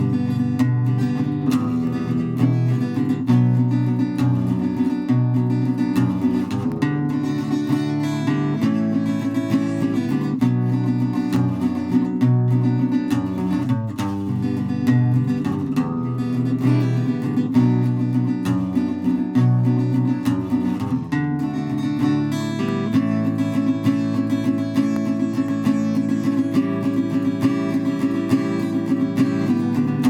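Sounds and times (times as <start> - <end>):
strummed acoustic guitar: 0.0 - 30.0.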